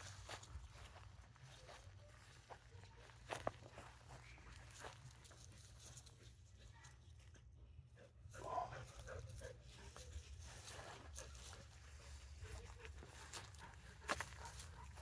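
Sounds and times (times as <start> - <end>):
faint dog sounds: 0.0 - 15.0.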